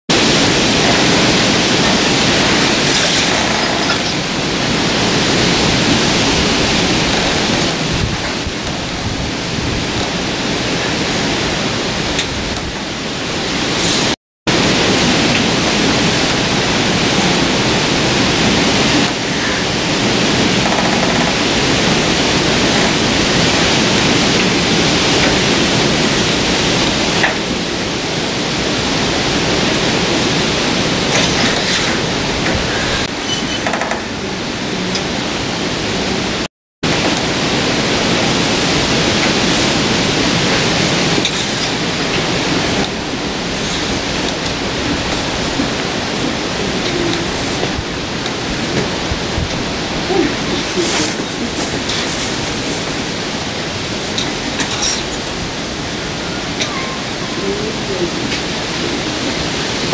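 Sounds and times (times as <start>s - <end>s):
loud steady hiss: 0.1s - 59.9s.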